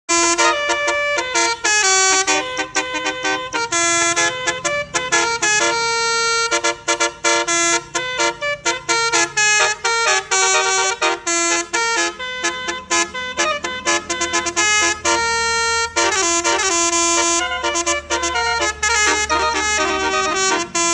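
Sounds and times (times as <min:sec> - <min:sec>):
multi-tone bus horn melody: 0:00.1 - 0:20.9.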